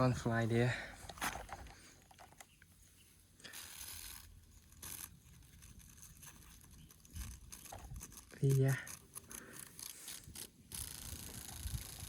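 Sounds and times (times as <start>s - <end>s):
rustling and scraping: 0.8s - 12.0s.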